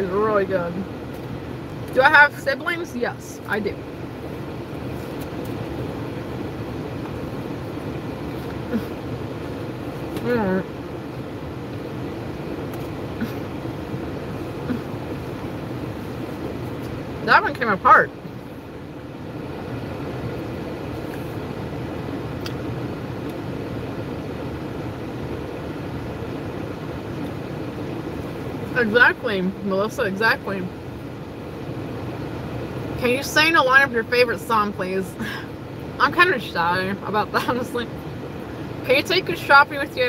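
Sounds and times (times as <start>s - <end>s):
car cabin hum: 0.0s - 40.0s.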